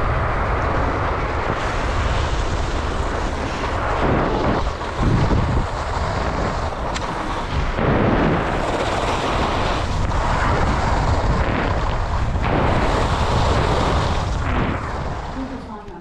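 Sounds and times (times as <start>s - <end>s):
skis scraping on snow: 0.0s - 15.7s
wind rushing over microphone: 0.0s - 16.0s.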